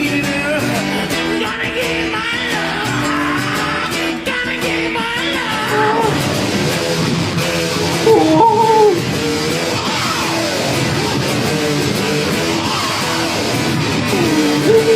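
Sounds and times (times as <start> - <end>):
rock music with electric guitar: 0.0 - 14.9.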